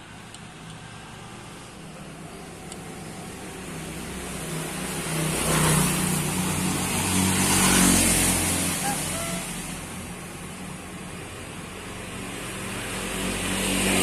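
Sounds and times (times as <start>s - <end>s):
road noise rushing: 0.0s - 14.0s
vehicle engine humming: 0.0s - 14.0s.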